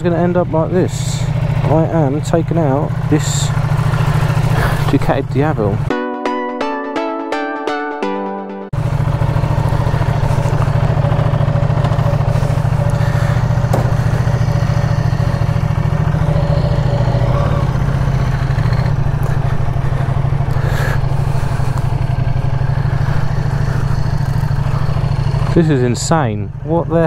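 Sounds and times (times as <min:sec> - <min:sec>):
motorcycle engine rumbling: 0:00.0 - 0:05.9, 0:08.8 - 0:27.0.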